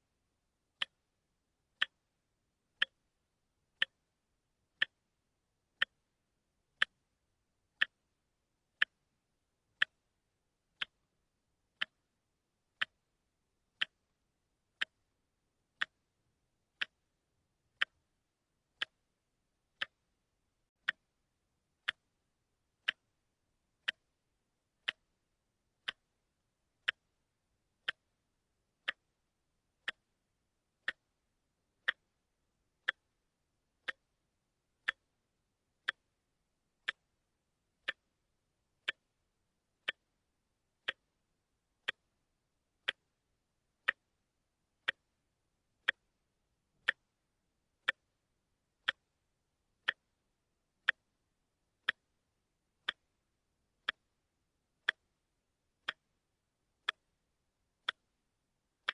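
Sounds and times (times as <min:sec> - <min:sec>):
watch ticking: 0:00.0 - 0:58.9.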